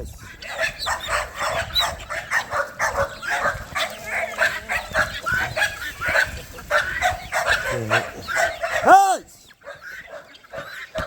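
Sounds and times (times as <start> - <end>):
dog barking: 0.4 - 11.0.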